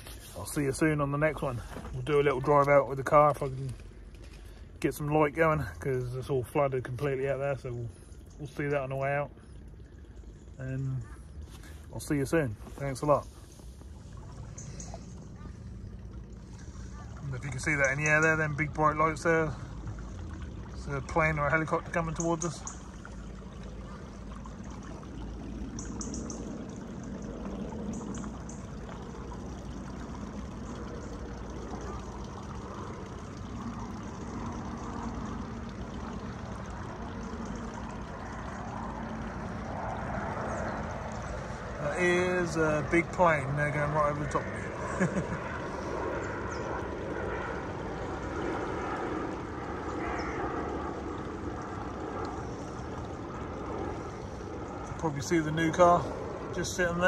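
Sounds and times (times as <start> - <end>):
plane rumbling overhead: 0.0 - 57.0.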